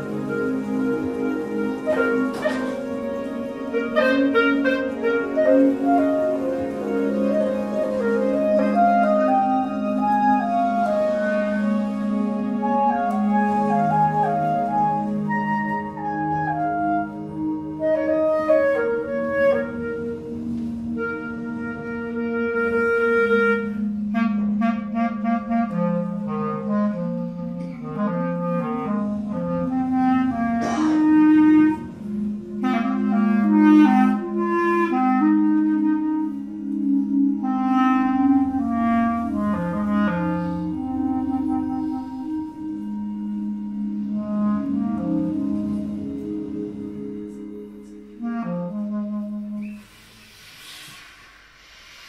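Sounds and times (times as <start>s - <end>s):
clarinet playing rapid notes: 0.0s - 50.1s.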